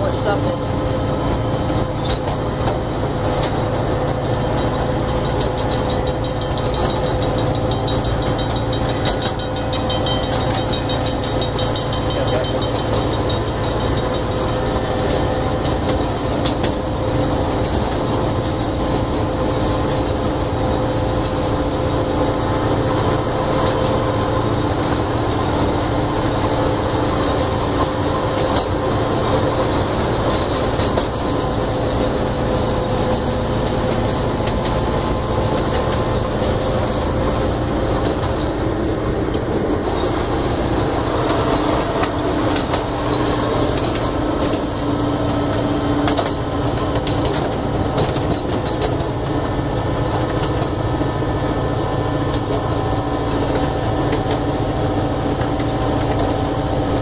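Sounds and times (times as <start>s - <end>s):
miniature train wheels rumbling on track: 0.0s - 57.0s.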